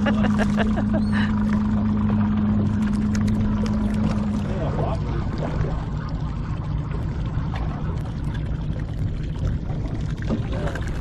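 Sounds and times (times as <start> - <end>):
boat engine droning: 0.0 - 11.0
water sloshing against hull: 0.0 - 11.0.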